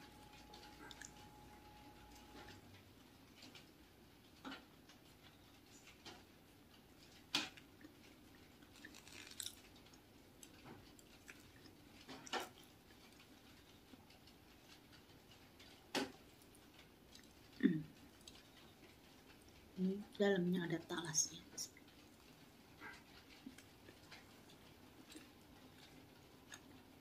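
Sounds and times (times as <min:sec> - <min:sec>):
crust crackling: 0:00.0 - 0:27.0
chewing crusty bun: 0:00.1 - 0:20.1, 0:21.7 - 0:27.0.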